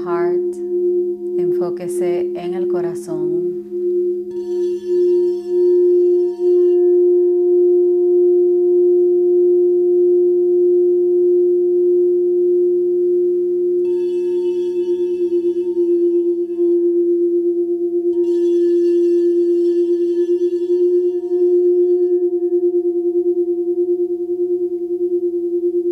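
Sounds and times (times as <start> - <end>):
singing bowl ringing tone: 0.0 - 25.9.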